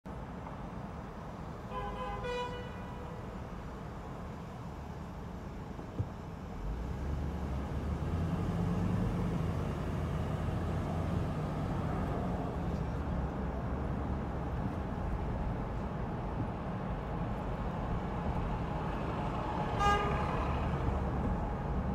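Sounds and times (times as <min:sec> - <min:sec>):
car engine and road noise: 0:00.0 - 0:21.9
city street traffic: 0:00.0 - 0:21.9.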